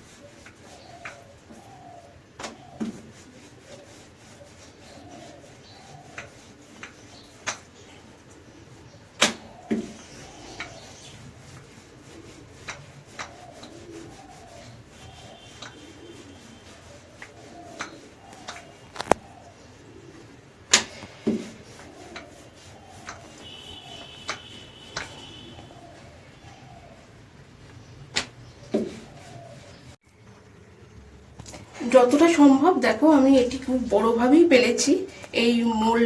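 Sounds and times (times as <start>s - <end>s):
rolling pin rubbing on dough: 0.0s - 30.0s.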